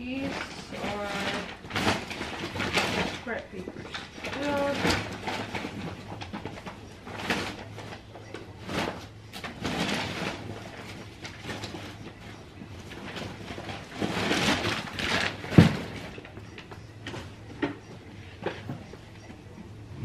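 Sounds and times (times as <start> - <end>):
bags rustling and crinkling: 0.0 - 20.0.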